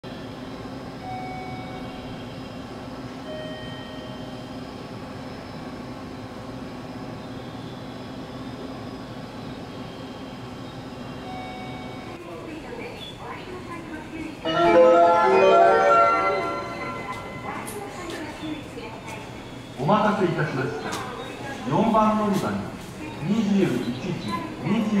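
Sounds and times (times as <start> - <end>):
train station hum and rumble: 0.0 - 25.0.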